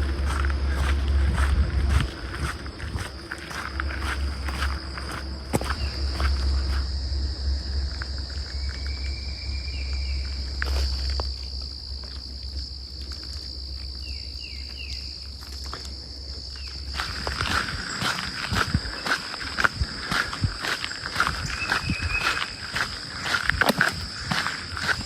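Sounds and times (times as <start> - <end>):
crickets trilling: 0.0 - 25.0
low rumble: 0.0 - 25.0.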